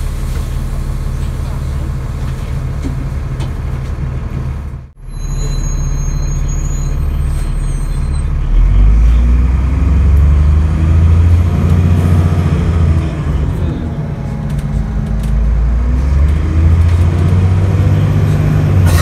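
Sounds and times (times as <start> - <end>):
bus engine accelerating: 0.0 - 19.0.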